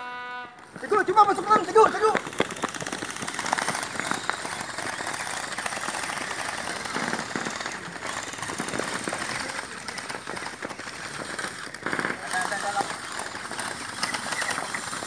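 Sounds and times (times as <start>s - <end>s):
gel blasters firing rapidly: 0.9s - 15.0s.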